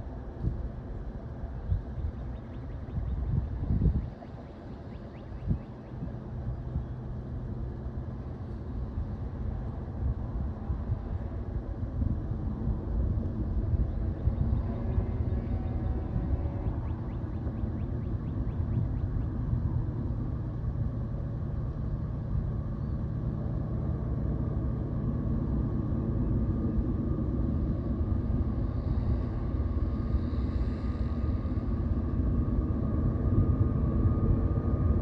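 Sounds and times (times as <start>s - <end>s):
distant diesel locomotives rumbling: 0.0s - 35.0s.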